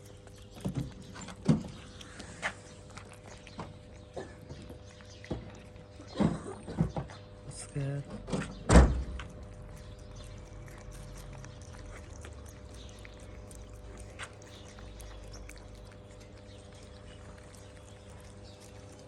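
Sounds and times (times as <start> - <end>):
kitten eating clicks: 0.0 - 6.3, 8.4 - 19.0.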